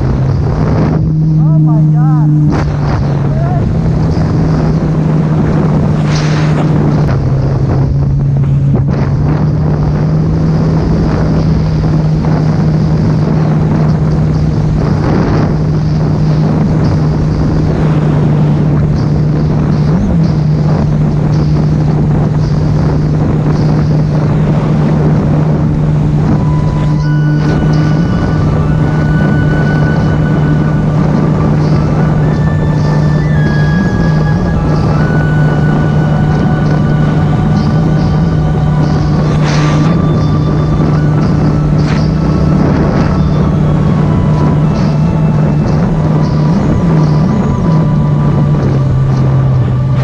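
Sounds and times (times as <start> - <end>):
water rushing past hull: 0.0 - 50.0
watercraft engine running: 0.0 - 50.0
wind buffeting microphone: 0.0 - 50.0.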